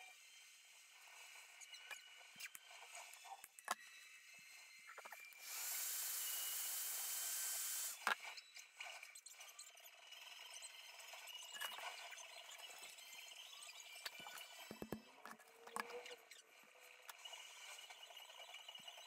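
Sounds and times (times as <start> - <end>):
small power tool whirring: 0.0 - 19.0.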